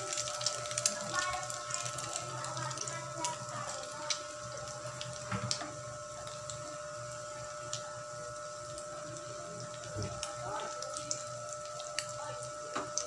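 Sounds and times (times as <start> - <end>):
omelette sizzling in frying pan: 0.0 - 13.0.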